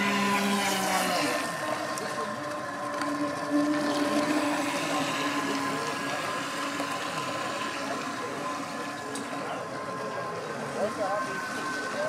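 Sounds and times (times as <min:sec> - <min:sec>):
model boat motor whine: 0:00.0 - 0:12.0.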